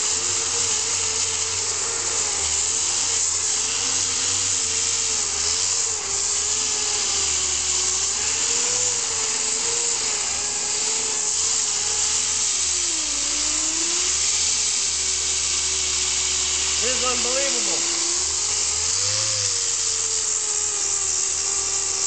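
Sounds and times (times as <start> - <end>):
power grinder grinding body filler: 0.0 - 22.0.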